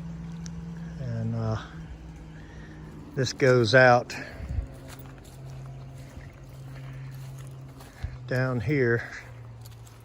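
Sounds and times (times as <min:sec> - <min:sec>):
low motor hum: 0:00.0 - 0:10.0
footsteps on ground: 0:01.6 - 0:10.0.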